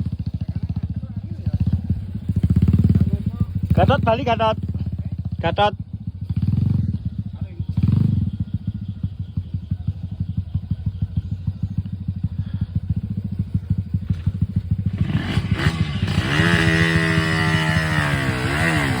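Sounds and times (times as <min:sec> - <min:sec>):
dirt bike engine revving: 0:01.4 - 0:19.0.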